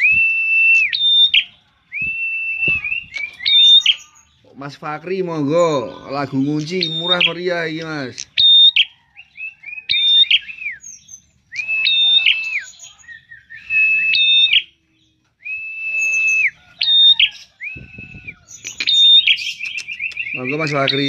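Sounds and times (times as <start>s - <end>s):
bird singing whistled phrases: 0.0s - 4.4s, 5.6s - 7.5s, 8.2s - 21.0s.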